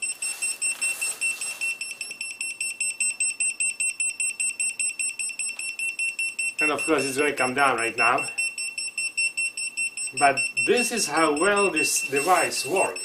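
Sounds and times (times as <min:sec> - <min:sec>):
rapid high-pitched alarm beeping: 0:00.0 - 0:13.0.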